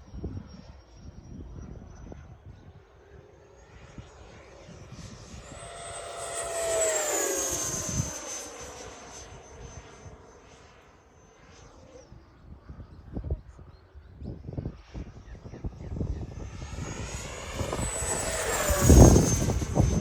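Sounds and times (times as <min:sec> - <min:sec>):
rc jet fan whine flying past: 0:00.0 - 0:20.0.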